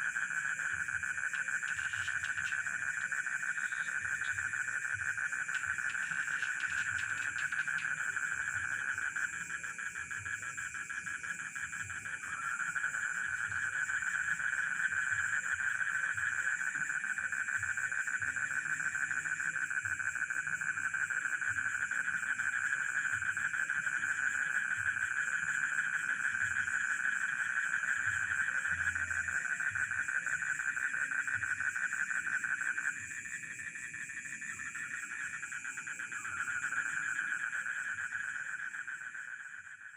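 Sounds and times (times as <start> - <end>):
crickets chirping: 0.0 - 39.9
frogs calling: 0.0 - 39.9.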